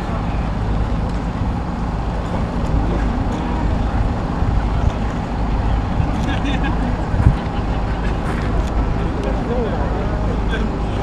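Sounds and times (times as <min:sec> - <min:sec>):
city background rumble: 0:00.0 - 0:11.0.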